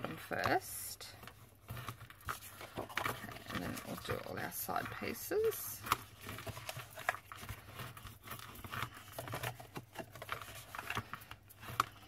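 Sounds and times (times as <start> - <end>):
card rustling and tapping: 0.0 - 12.0
bone folder scraping cardstock: 1.1 - 12.0.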